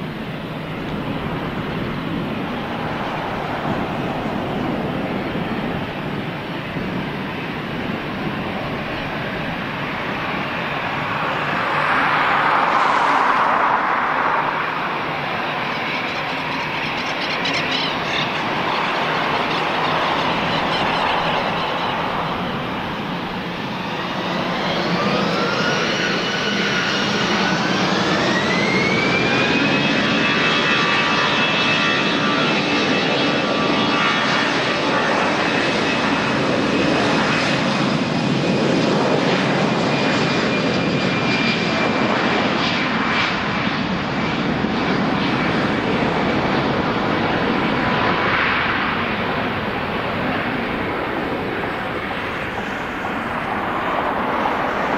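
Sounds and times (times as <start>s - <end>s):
rising engine whine: 0.0s - 33.0s, 43.3s - 54.9s
jet engines roaring: 0.0s - 54.9s.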